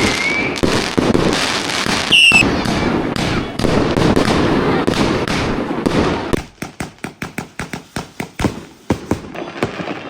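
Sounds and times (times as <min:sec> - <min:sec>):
firecrackers going off: 0:00.0 - 0:10.0.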